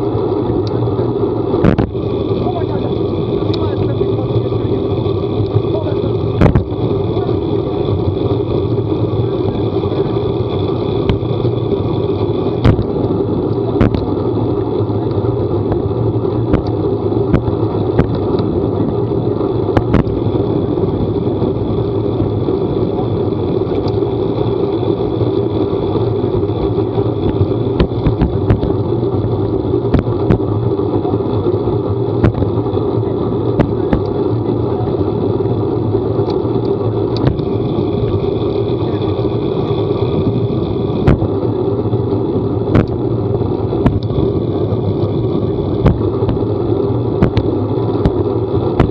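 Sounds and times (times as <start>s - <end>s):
vehicle engine drone: 0.0s - 48.9s.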